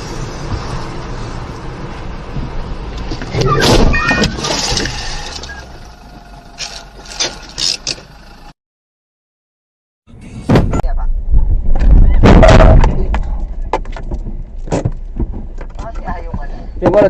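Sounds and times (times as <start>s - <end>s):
road vehicle noise: 0.0s - 8.6s, 10.1s - 17.0s.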